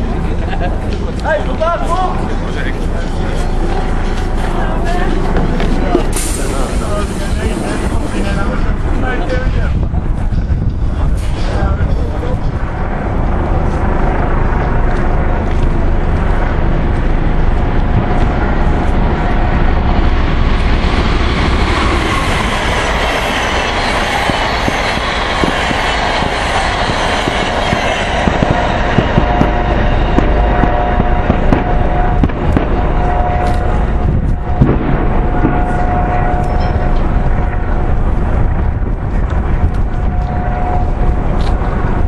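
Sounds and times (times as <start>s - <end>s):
helicopter rotor and turbine: 0.0s - 42.0s.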